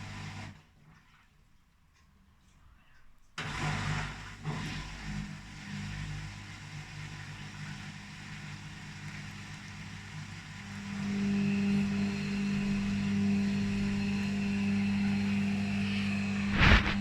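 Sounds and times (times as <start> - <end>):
washing machine motor hum: 0.0 - 0.6, 3.4 - 17.0.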